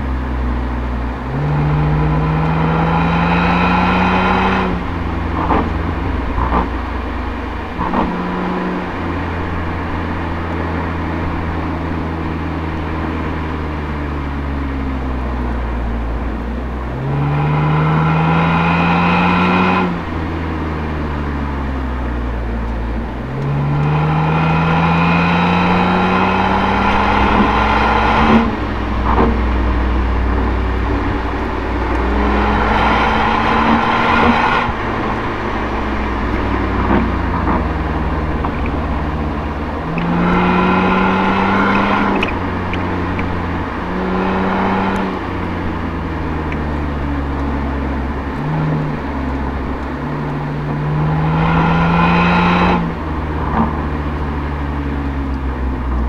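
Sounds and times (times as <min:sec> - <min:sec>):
car engine revving: 0:00.0 - 0:56.0
low road and exhaust rumble: 0:00.0 - 0:56.0.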